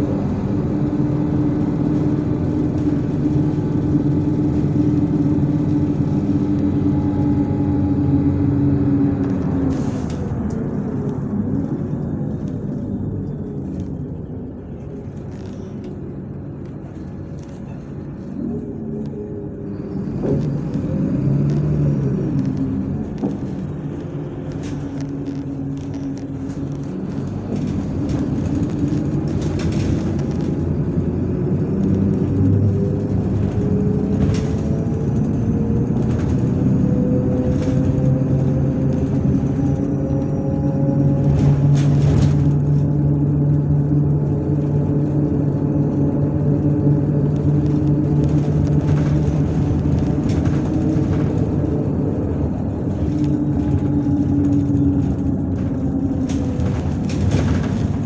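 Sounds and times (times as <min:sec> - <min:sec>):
bus engine and drivetrain: 0:00.0 - 0:58.0
rattles and clicks from bus body: 0:00.0 - 0:58.0.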